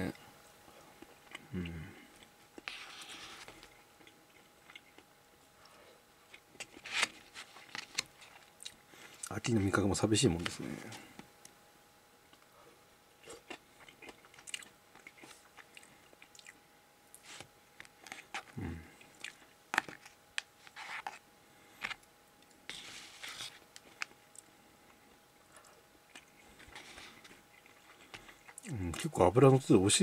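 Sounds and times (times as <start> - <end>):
soft chewing: 0.1 - 9.8, 12.2 - 29.1.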